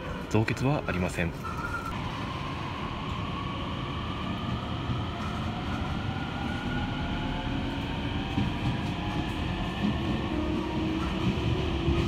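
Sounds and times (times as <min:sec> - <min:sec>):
electric train running rumble: 0:01.9 - 0:12.0.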